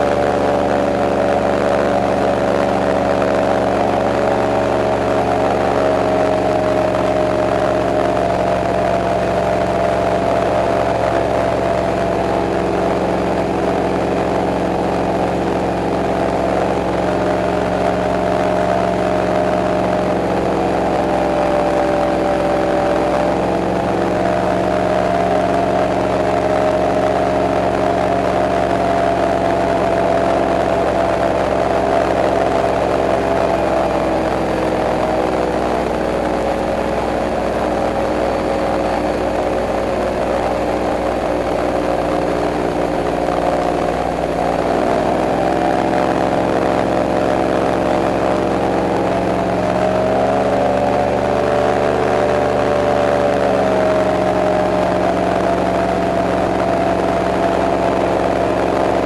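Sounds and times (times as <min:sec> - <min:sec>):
airboat engine droning: 0:00.0 - 0:59.0.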